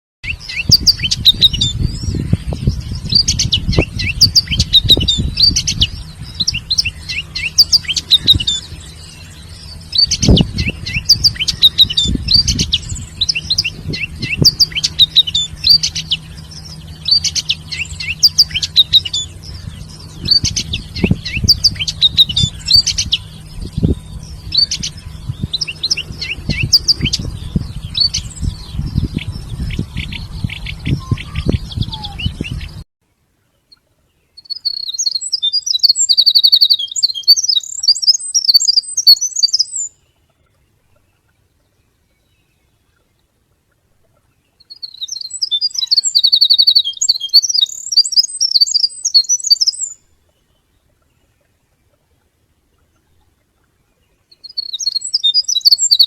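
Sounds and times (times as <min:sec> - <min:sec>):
small birds chirping: 0:00.2 - 0:32.8, 0:33.4 - 0:43.3, 0:44.2 - 0:52.0, 0:52.8 - 0:56.0.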